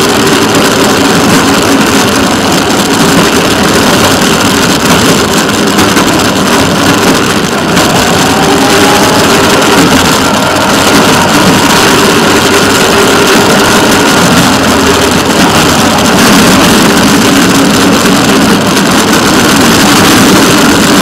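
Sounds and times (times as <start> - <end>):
rail motorcar engine running: 0.0 - 21.0.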